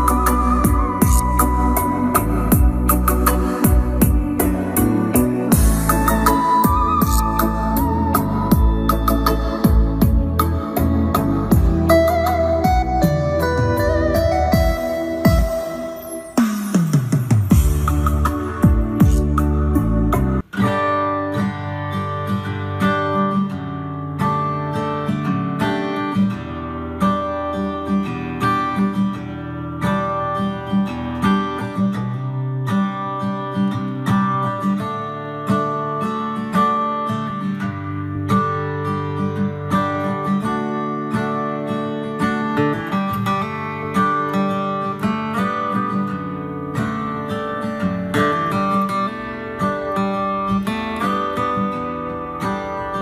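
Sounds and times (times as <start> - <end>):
strummed acoustic guitar music: 8.0 - 53.0.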